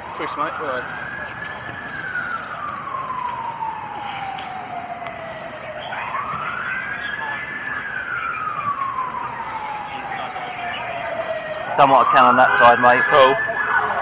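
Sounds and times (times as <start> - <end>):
emergency siren wailing: 0.0 - 14.0.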